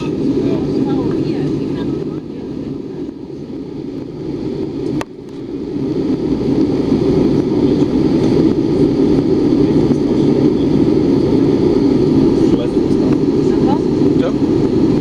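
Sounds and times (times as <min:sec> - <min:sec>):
airliner cabin engine rush: 0:00.0 - 0:15.0.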